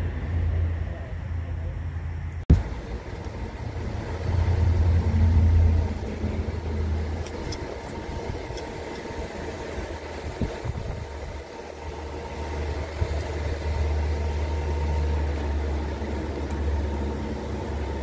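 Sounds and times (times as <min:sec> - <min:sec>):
small engine idling: 0:02.5 - 0:18.0.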